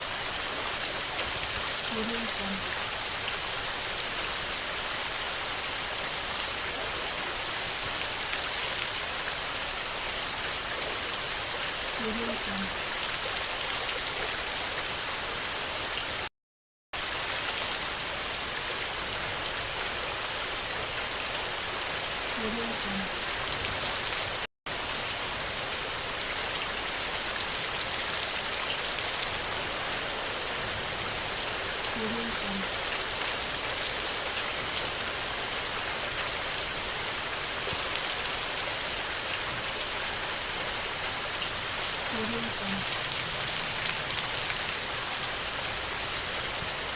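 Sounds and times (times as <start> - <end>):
steady rain hissing: 0.0 - 16.3, 17.0 - 46.9.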